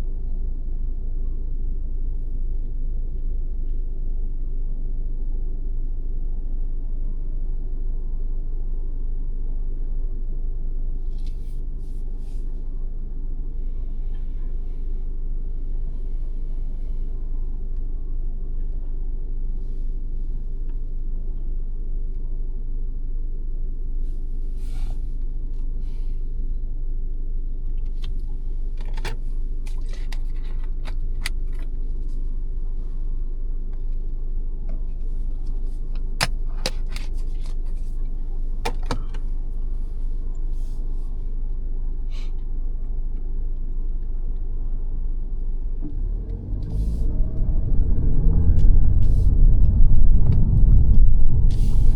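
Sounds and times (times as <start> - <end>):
car road and engine rumble: 0.0 - 51.9.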